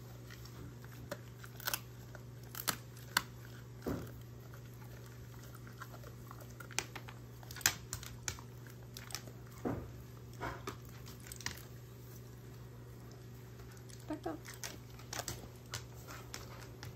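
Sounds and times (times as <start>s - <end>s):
dog crunching a treat: 0.0s - 16.9s
steady low hum: 0.0s - 16.9s.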